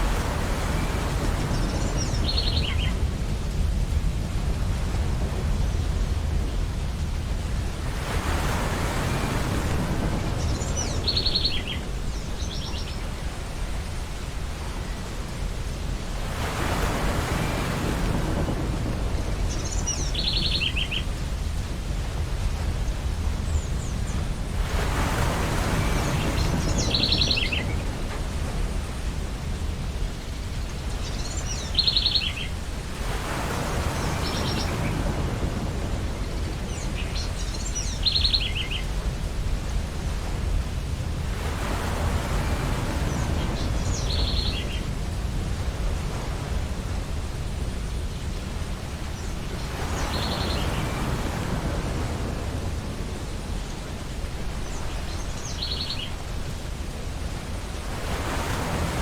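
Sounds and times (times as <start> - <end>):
ocean surf washing onto beach: 0.0 - 59.0.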